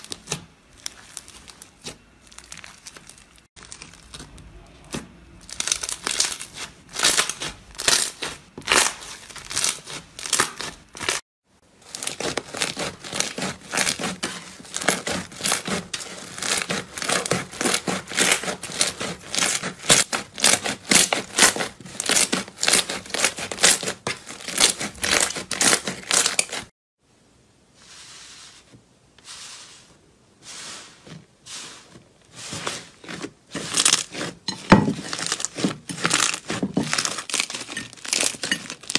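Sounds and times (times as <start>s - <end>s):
slime crackling and popping: 0.0s - 11.2s, 11.8s - 26.7s, 32.6s - 38.9s
slime squishing: 0.0s - 11.2s, 11.8s - 26.7s, 27.9s - 38.9s.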